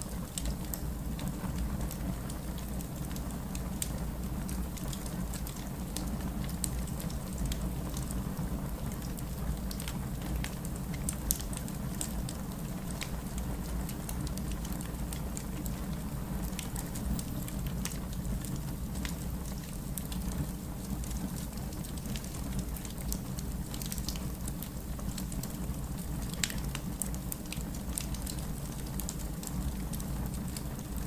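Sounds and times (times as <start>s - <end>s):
fire crackling and popping: 0.1s - 31.0s.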